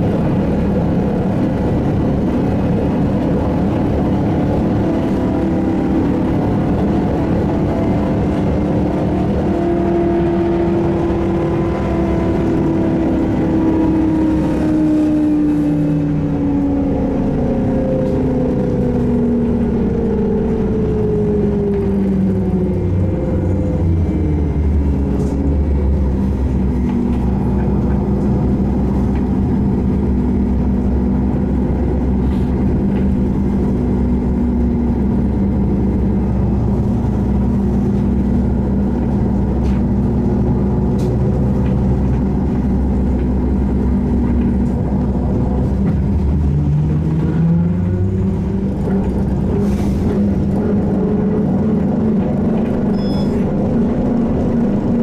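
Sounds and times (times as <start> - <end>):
running gear rumble: 0.0 - 55.0.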